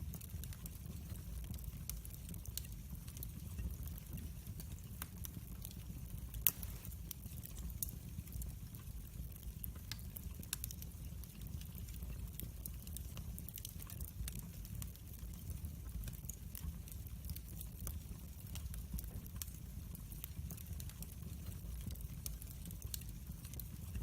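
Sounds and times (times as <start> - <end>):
loud crack of fire: 0.0 - 24.0
wood fire crackling: 0.0 - 24.0.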